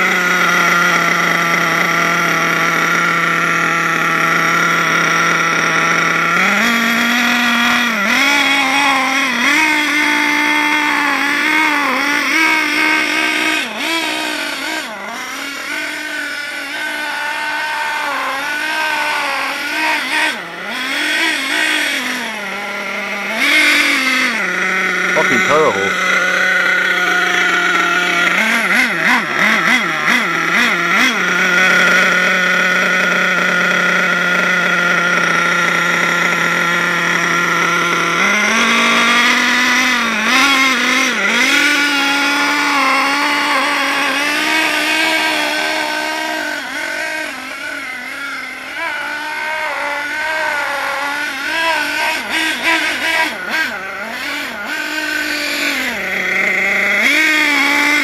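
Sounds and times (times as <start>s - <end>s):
model car nitro engine running: 0.0s - 58.0s.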